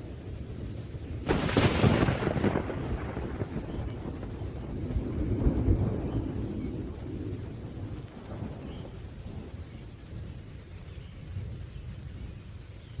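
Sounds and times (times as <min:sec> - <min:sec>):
rolling thunder: 0:00.0 - 0:12.4
steady rain: 0:00.0 - 0:13.0.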